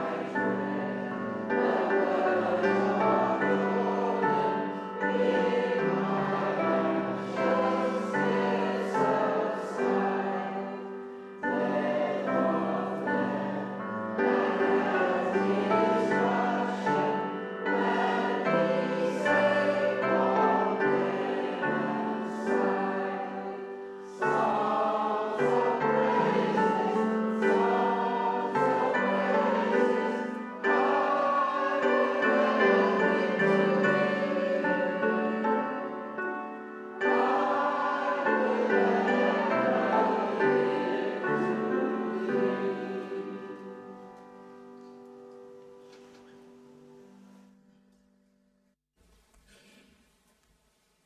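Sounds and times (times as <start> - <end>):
choir singing a hymn: 0.0 - 45.1.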